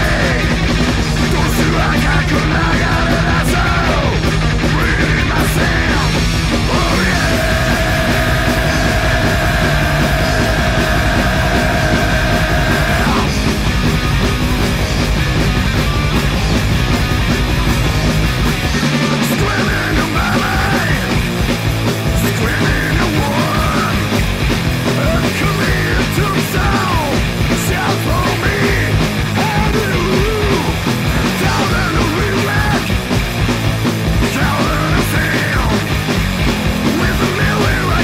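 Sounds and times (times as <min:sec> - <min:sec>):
distorted guitars: 0:00.0 - 0:38.0
rapid drumming: 0:00.0 - 0:38.0.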